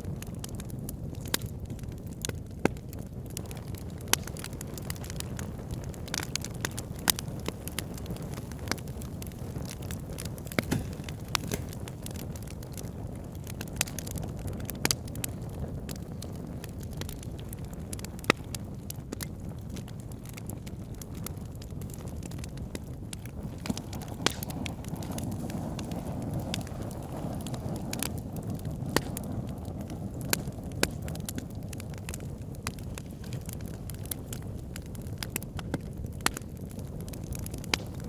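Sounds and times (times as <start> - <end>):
fire rumbling in a fireplace: 0.0 - 38.0
wood fire crackling and popping: 0.0 - 38.0.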